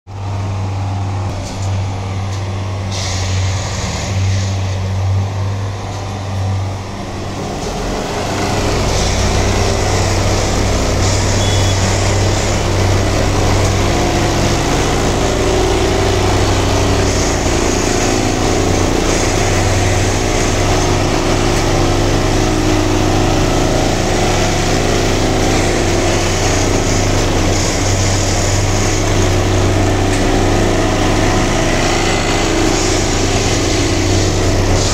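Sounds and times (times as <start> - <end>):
diesel engine and machinery humming: 0.1 - 34.9.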